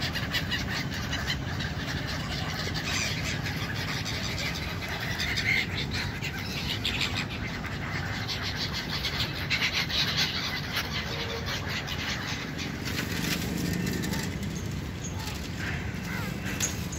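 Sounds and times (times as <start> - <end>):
gulls calling: 0.0 - 16.9.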